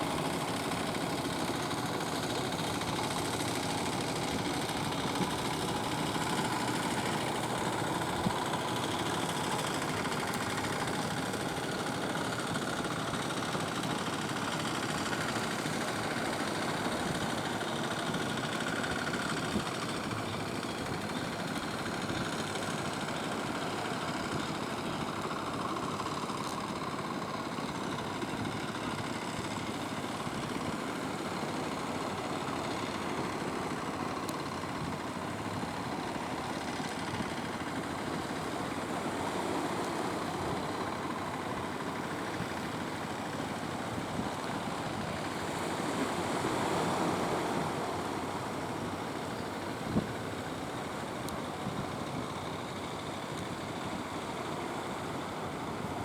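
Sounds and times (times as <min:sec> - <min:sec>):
boat engine running: 0:00.0 - 0:56.0
wind: 0:00.0 - 0:56.0.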